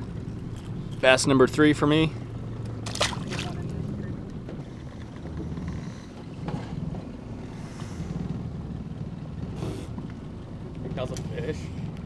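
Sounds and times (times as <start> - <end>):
wind and boat rumble: 0.0 - 12.0.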